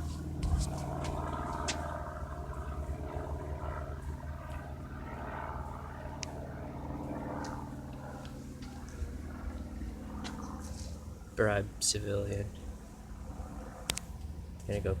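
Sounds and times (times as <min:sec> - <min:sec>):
propeller plane droning: 0:00.0 - 0:15.0.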